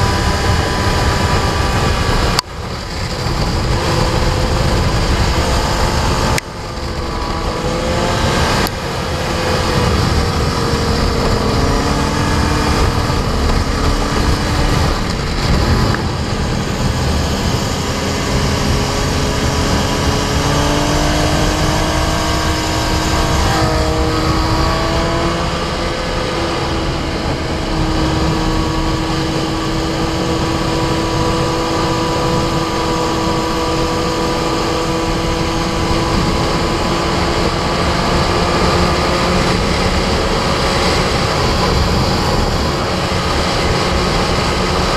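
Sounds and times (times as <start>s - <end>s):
motorcycle engine running hard: 0.0s - 44.9s
wind rush: 0.0s - 44.9s.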